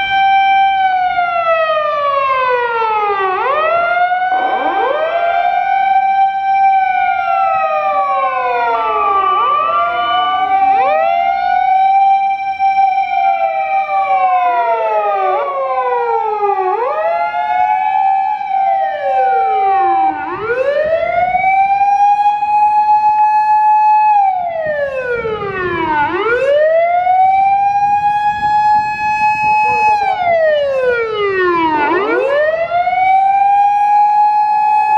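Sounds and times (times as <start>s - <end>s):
fire engine sirens wailing: 0.0s - 34.9s.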